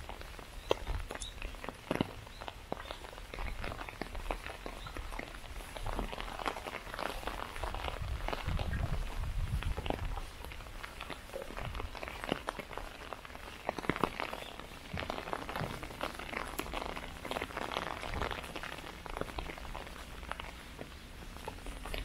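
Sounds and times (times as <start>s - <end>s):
footsteps on path: 0.0s - 22.0s
raindrops tapping on umbrella: 0.0s - 22.0s.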